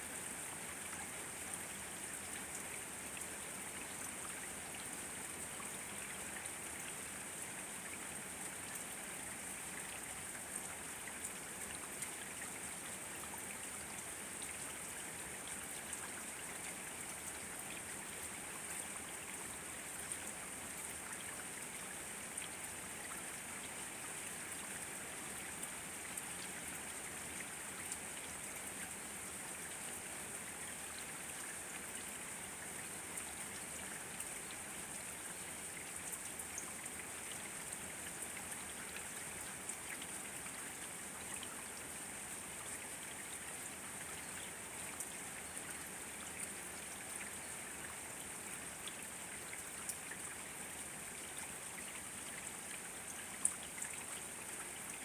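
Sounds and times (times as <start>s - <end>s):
steady rain pattering: 0.0s - 55.0s.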